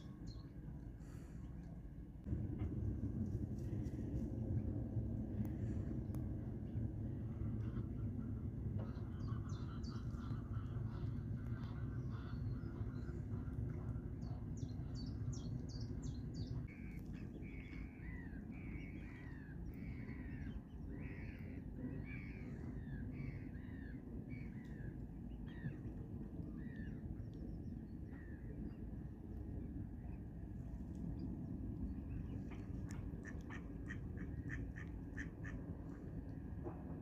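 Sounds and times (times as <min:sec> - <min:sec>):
low rumble of wind or water: 0:00.0 - 0:37.0.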